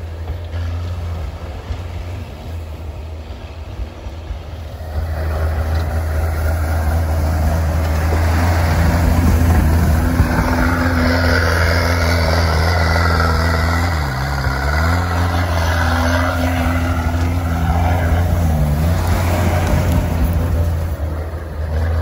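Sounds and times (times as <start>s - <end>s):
all-terrain vehicle engine running: 0.0s - 22.0s.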